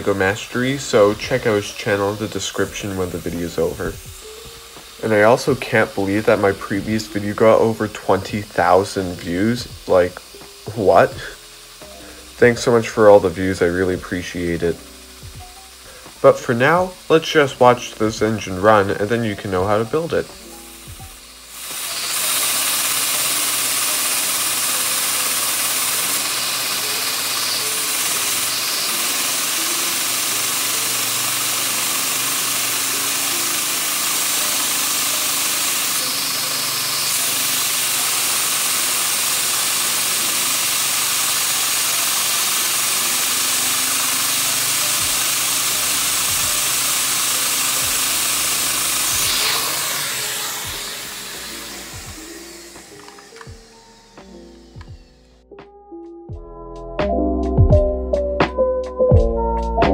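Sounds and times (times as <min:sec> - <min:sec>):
vacuum cleaner hissing: 0:00.0 - 0:55.4.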